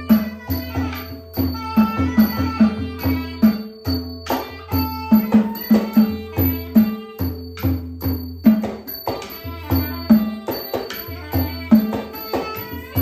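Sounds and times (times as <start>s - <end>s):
steady held tones: 0.0s - 13.0s.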